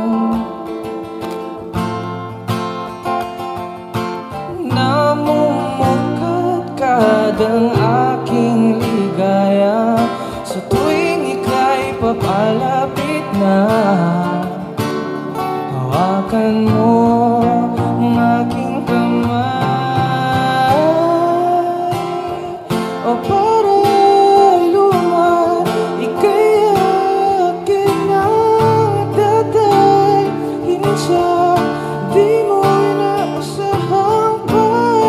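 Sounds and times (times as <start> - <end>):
man singing a slow ballad: 0.0 - 1.2, 4.4 - 35.0
strummed acoustic guitar: 0.0 - 35.0.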